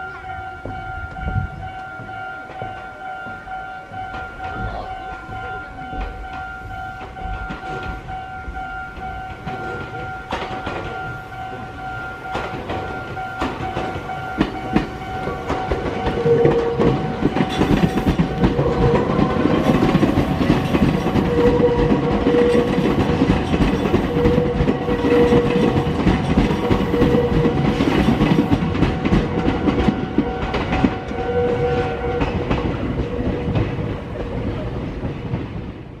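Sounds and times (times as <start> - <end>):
high tone: 0.0 - 33.8
electric train running: 0.0 - 35.9
wheels clattering over rail joints: 0.6 - 36.0.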